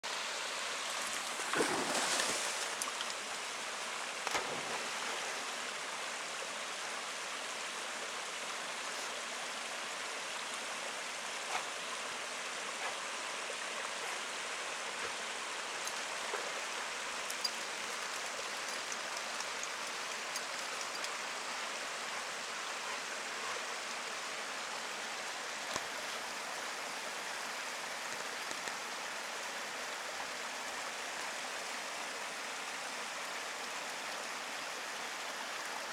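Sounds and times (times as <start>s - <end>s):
stream rushing over rocks: 0.1s - 35.9s.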